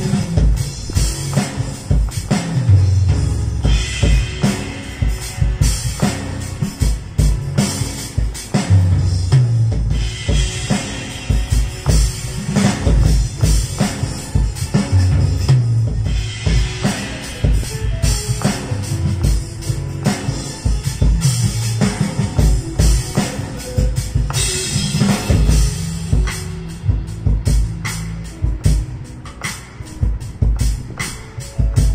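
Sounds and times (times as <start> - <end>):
bass drum and snare beat: 0.0 - 31.9
low pitched notes: 0.0 - 31.9.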